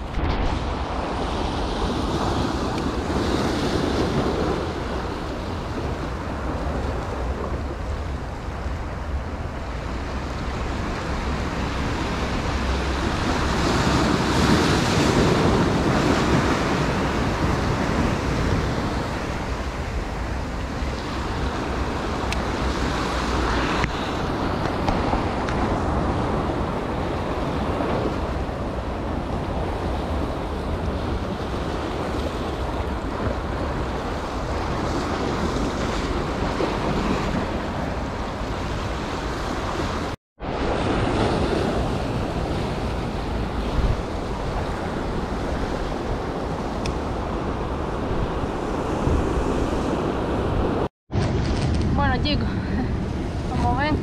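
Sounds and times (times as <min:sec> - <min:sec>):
waves breaking on rocks: 0:00.0 - 0:54.0
wind rumbling on microphone: 0:00.0 - 0:54.0.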